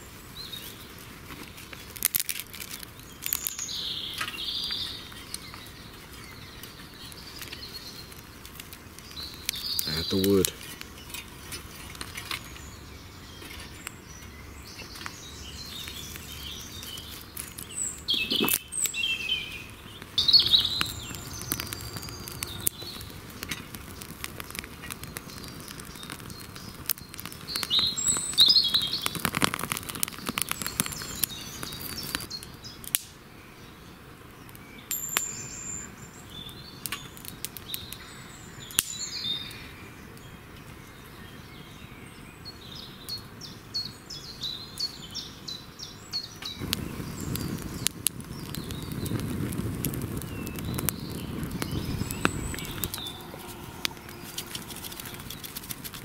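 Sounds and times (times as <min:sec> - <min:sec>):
small fire crackling: 0:00.0 - 0:56.0
dry twigs clicking: 0:00.5 - 0:12.8, 0:13.4 - 0:33.2, 0:36.3 - 0:39.6, 0:46.3 - 0:56.0
birds chirping and singing: 0:02.7 - 0:32.8, 0:33.4 - 0:56.0.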